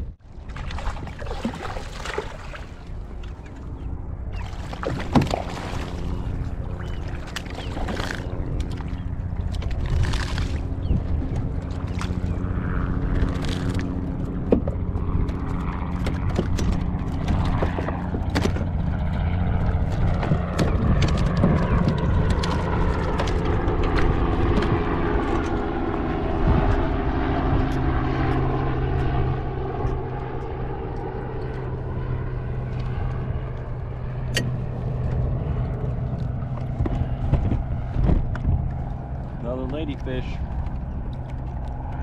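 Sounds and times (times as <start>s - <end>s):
motor engine droning: 0.0s - 42.0s.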